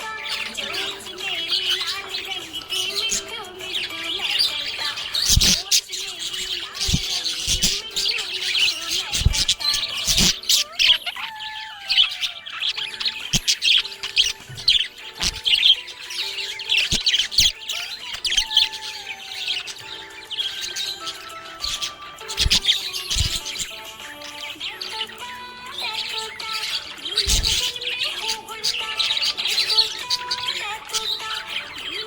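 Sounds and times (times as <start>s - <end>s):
budgerigar chirping and warbling: 0.0s - 32.0s.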